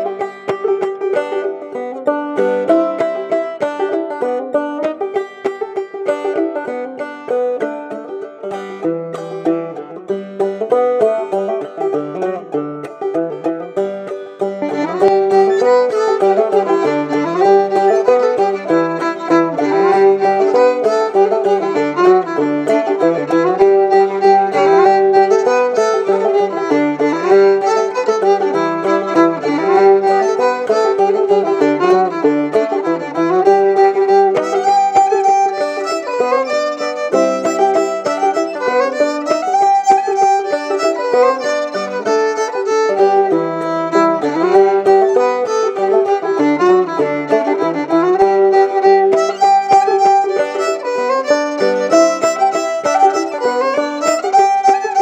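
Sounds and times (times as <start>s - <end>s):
banjo picking: 0.0s - 55.0s
fiddle melody: 0.0s - 55.0s.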